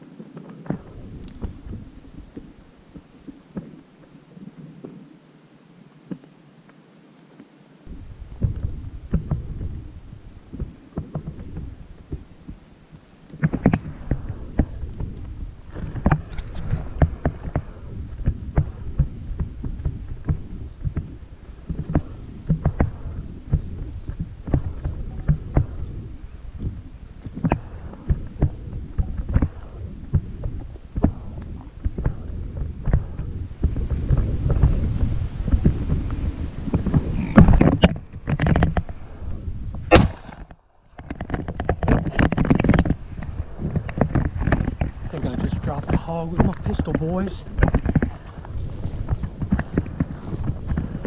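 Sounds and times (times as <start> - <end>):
microphone handling noise: 0.0 - 3.8, 7.9 - 51.0
steady low rumble: 0.0 - 4.6, 7.9 - 51.0
footsteps as low thumps: 0.0 - 5.0, 7.9 - 51.0
sharp crackles: 0.0 - 51.0.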